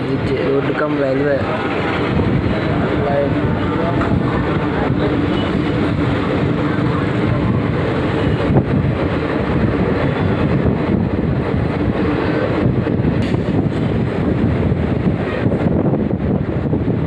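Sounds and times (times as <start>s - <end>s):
train rumbling across bridge: 0.0s - 17.0s.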